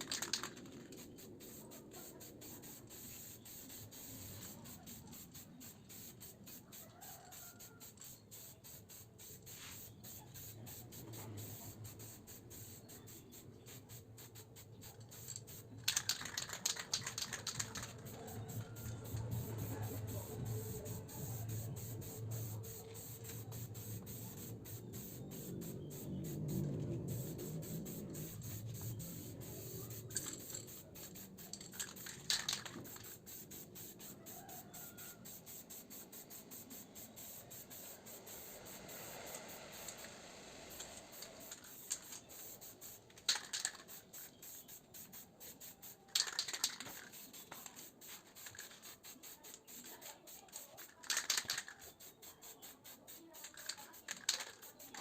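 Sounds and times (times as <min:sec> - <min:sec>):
aerosol spray can hissing: 0:00.0 - 0:55.0.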